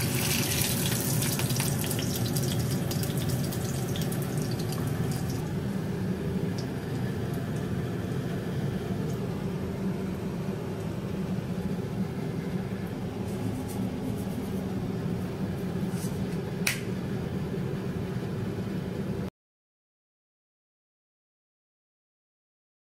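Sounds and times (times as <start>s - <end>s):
fan or motor humming: 0.0s - 19.3s.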